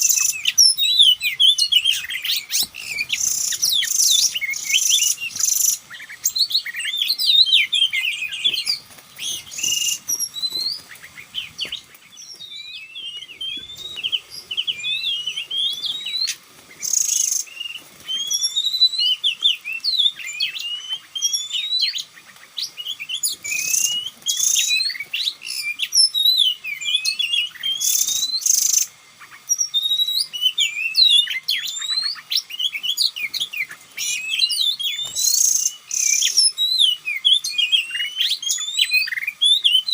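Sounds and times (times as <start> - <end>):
bird singing whistles: 0.0 - 39.9
harsh rasping bird calls: 0.0 - 39.9.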